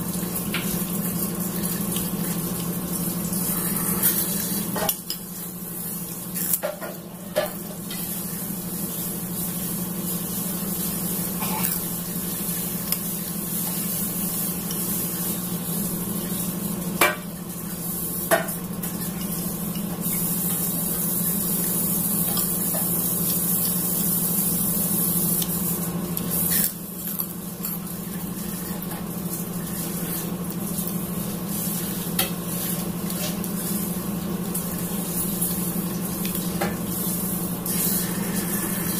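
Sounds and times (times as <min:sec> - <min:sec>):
background hiss and hum: 0:00.0 - 0:38.9.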